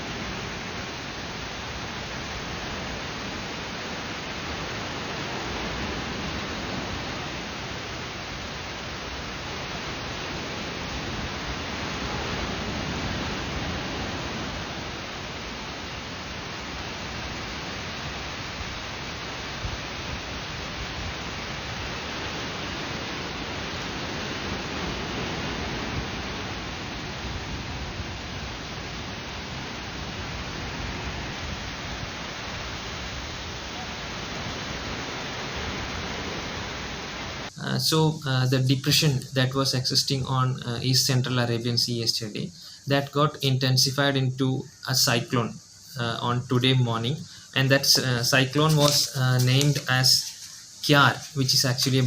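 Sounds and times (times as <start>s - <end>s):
heavy rain falling: 0.0s - 39.6s, 47.5s - 52.0s.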